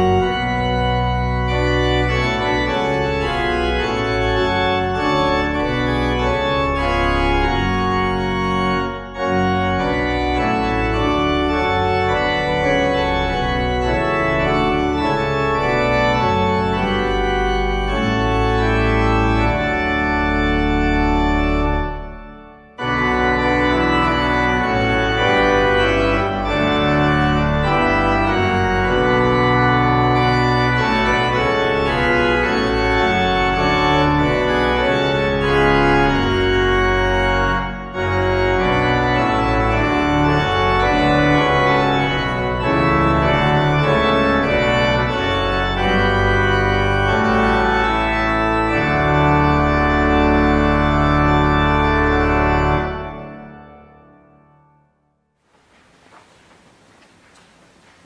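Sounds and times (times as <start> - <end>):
organ playing hymn chords: 0.0 - 55.0, 55.6 - 58.0.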